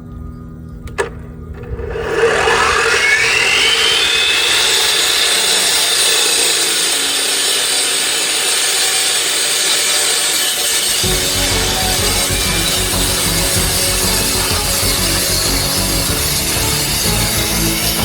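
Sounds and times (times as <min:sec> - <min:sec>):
power saw whining and cutting: 0:01.0 - 0:18.0.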